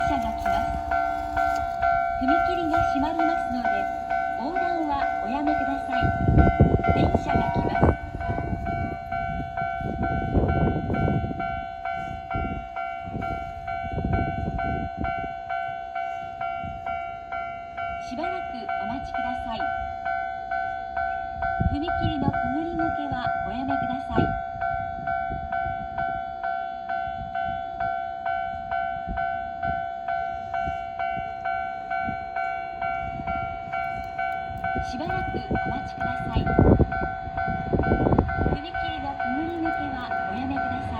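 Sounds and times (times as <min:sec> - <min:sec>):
electric train rolling past: 0:00.0 - 0:40.9
level-crossing warning bell ringing: 0:00.0 - 0:40.9.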